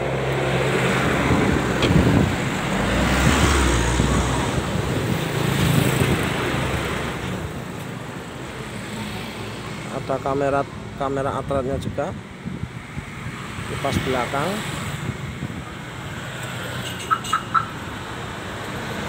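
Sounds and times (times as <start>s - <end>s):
vehicles passing: 0.0s - 19.0s.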